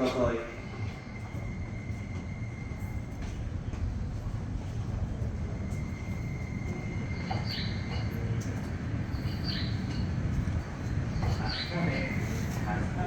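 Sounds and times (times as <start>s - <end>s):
train rolling rumble: 0.0s - 13.0s.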